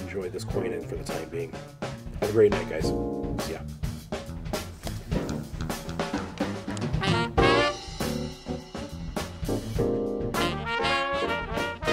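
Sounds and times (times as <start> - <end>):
drum kit: 0.0 - 11.9
jazz horns: 0.5 - 11.9.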